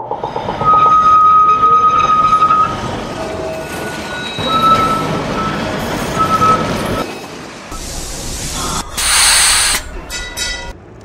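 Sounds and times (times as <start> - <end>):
tram rumbling on rails: 0.0 - 11.0
steel wheels squealing: 0.1 - 10.7.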